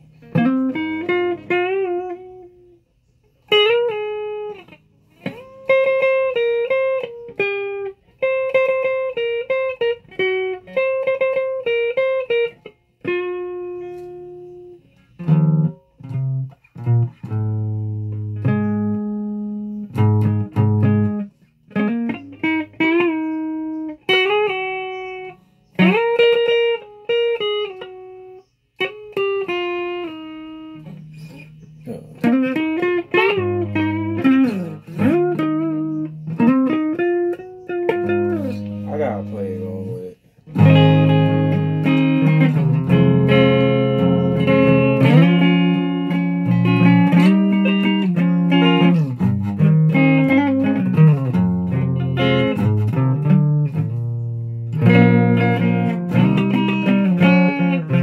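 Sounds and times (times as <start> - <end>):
guitar plucked notes: 0.0 - 58.0.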